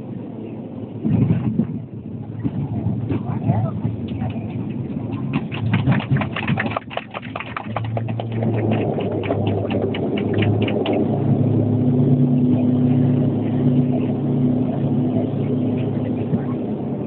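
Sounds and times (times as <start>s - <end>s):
propeller engines rumbling: 0.0s - 17.0s.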